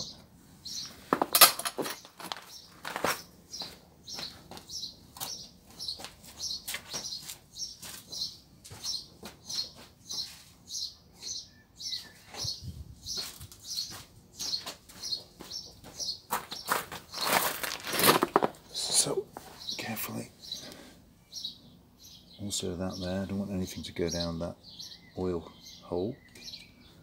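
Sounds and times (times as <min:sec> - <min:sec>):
small bird chirping: 0:00.0 - 0:01.1, 0:01.9 - 0:17.4, 0:18.8 - 0:27.0.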